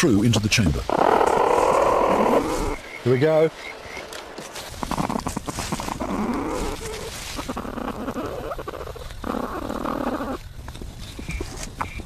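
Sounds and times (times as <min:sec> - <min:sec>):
rustling and scratching nest material: 0:00.0 - 0:03.2, 0:03.9 - 0:12.0
low animal calls: 0:00.8 - 0:12.0.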